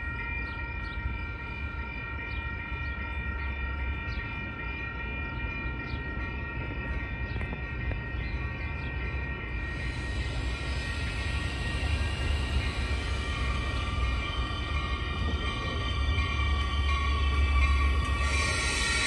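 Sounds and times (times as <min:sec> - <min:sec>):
steady ringing tone: 0:00.0 - 0:19.0
train rumble: 0:00.0 - 0:19.0.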